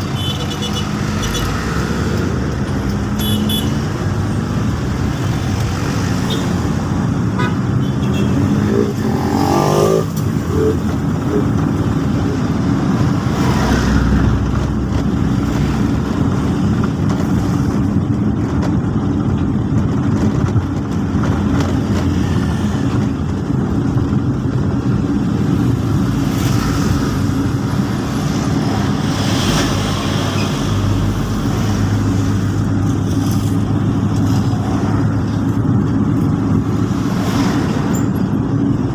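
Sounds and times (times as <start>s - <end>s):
vehicles passing on road: 0.0s - 38.9s.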